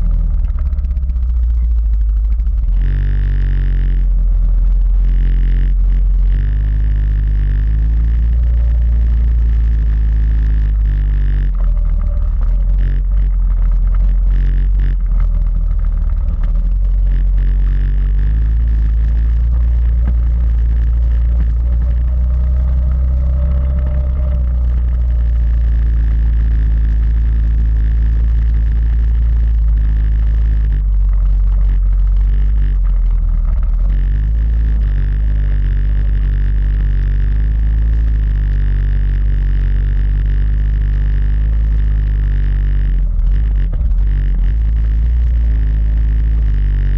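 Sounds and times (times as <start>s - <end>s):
quad bike engine rumbling: 0.0s - 46.9s.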